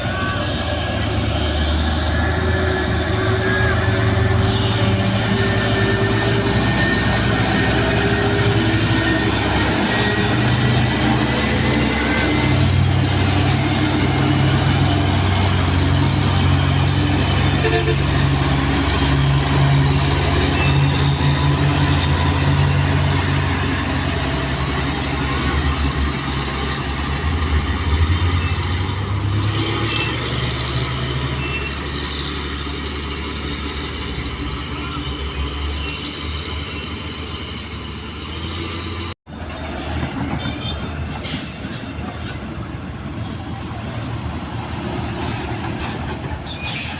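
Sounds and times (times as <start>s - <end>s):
road and traffic noise: 0.0s - 46.9s
truck diesel engine: 0.0s - 46.9s.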